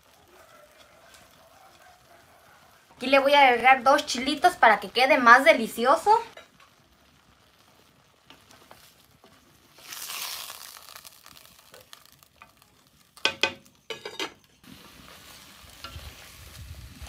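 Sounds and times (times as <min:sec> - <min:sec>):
meat and onion sizzling in pan: 0:00.0 - 0:17.0.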